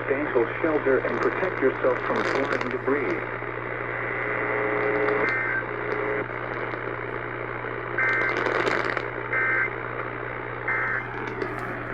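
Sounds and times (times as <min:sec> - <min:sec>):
radio hiss: 0:00.0 - 0:11.9
steady hum: 0:00.0 - 0:11.9.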